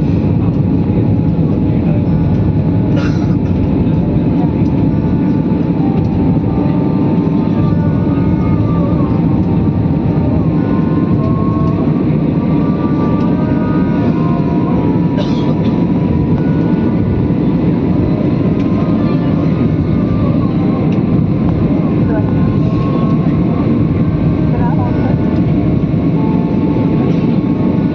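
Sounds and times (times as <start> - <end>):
aeroplane engines at takeoff power: 0.0 - 27.9.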